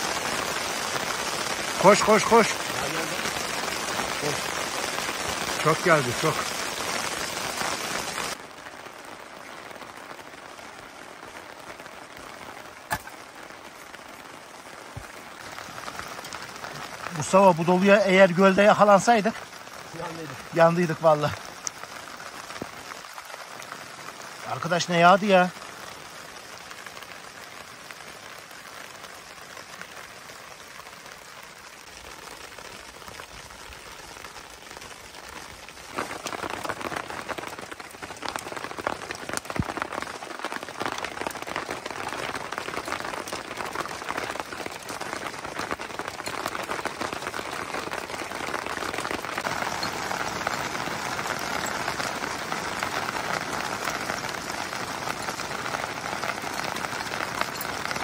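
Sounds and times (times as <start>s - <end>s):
heavy rain falling: 0.0s - 58.0s
sharp raindrop hits: 0.0s - 58.0s.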